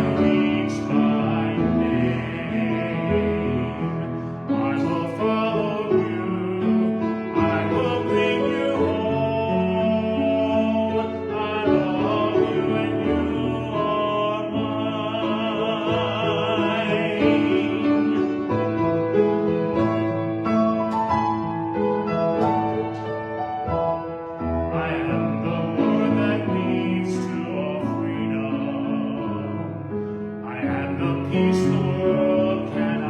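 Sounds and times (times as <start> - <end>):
solo voice singing a hymn: 0.0 - 18.8, 24.4 - 33.0
piano accompaniment: 0.0 - 33.0.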